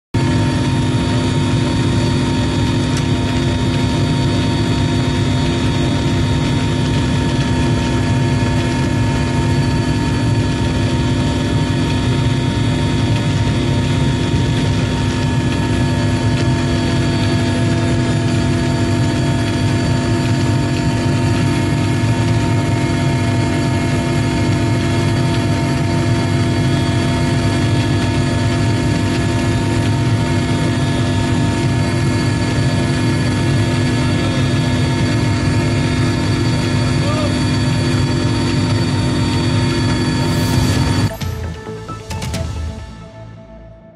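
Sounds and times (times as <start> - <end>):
aircraft engines droning: 0.2 - 43.9.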